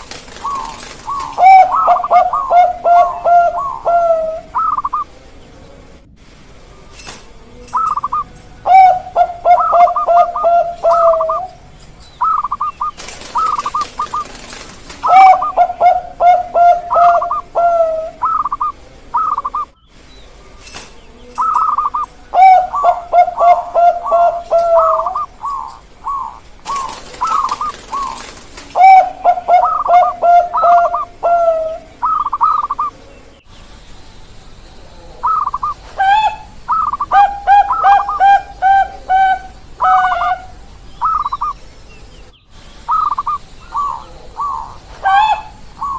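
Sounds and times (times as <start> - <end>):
dove cooing: 0.0 - 6.0, 7.2 - 19.8, 20.4 - 33.4, 34.8 - 42.1, 42.9 - 45.9.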